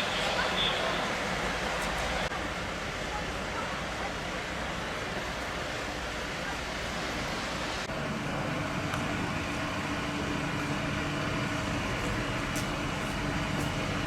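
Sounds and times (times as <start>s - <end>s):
street noise: 0.0s - 14.0s
vehicle engine humming: 0.8s - 14.0s.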